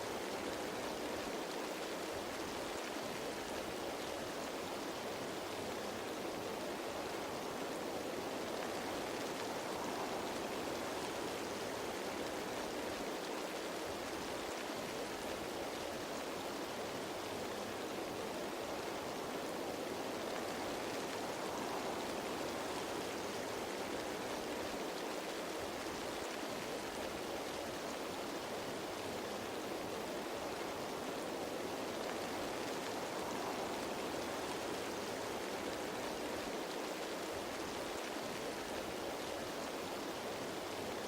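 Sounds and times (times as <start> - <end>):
rain falling on foliage: 0.0 - 41.0.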